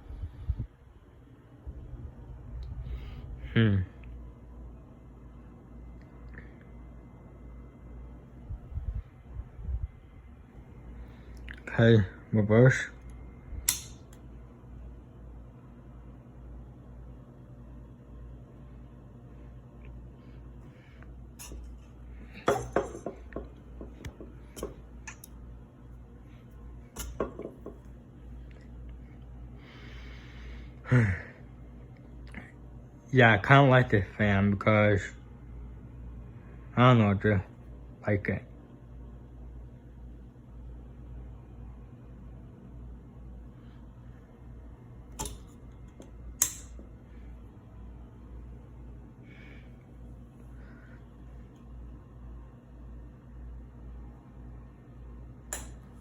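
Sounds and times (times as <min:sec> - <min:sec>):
ceiling fan humming: 0:00.0 - 0:56.0.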